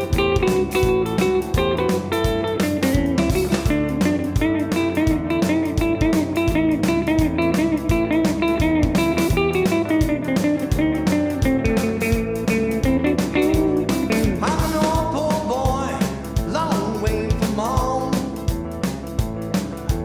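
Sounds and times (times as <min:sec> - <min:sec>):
electric guitar: 0:00.0 - 0:20.0
steady drum beat: 0:00.0 - 0:20.0.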